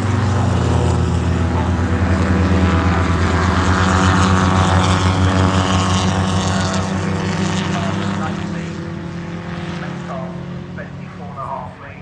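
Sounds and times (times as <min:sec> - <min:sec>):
sports car engine running: 0:00.0 - 0:12.0.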